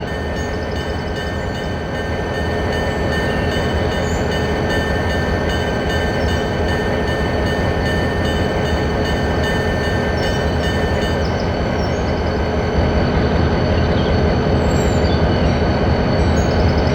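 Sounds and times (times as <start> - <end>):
train rumbling on rails: 0.0 - 16.9.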